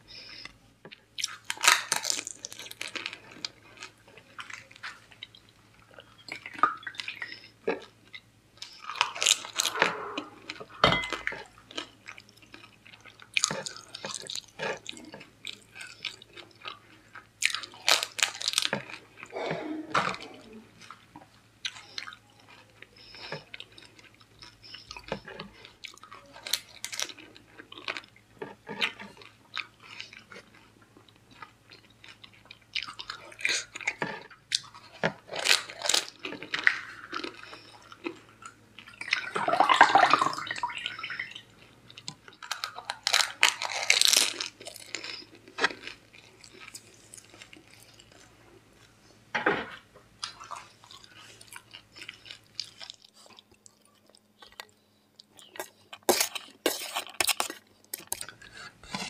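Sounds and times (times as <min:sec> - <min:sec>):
crunchy food being chewed: 0:00.1 - 0:49.2, 0:50.2 - 0:59.0.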